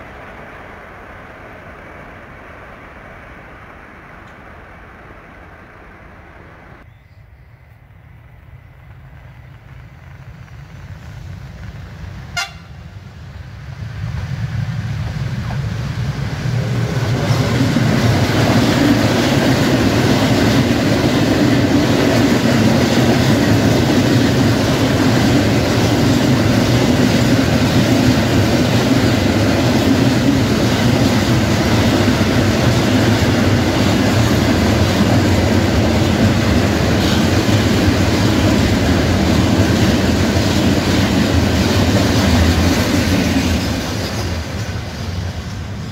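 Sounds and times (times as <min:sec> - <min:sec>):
train rumble passing by: 0:00.0 - 0:06.9, 0:07.5 - 0:45.9.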